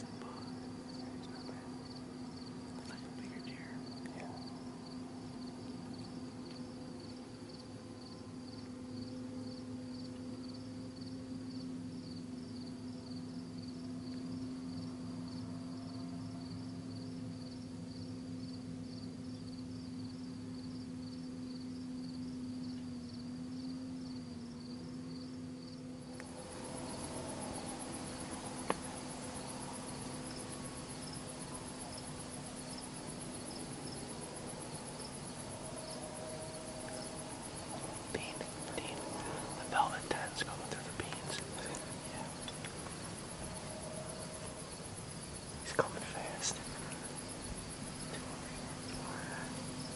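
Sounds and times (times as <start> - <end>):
crickets chirping: 0.0 - 49.9
high insect trill: 0.0 - 49.9
low hum: 0.0 - 49.9.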